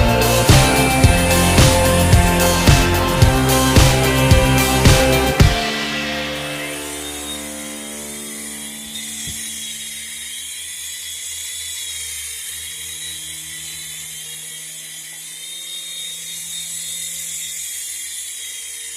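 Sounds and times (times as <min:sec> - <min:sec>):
toy helicopter motor whining: 0:00.0 - 0:18.9.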